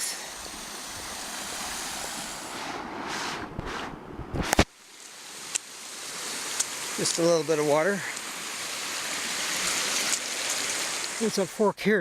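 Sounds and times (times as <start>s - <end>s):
creek trickling: 0.0s - 2.7s, 4.7s - 11.9s.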